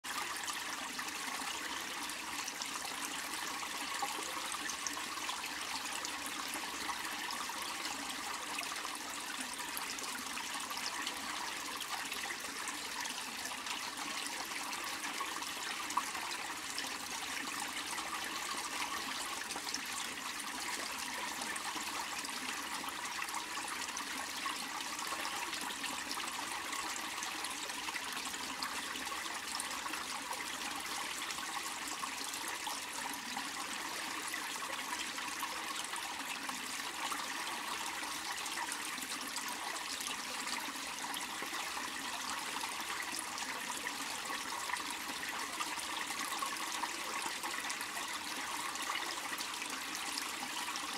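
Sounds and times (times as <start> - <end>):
stream flowing over stones: 0.0 - 50.9.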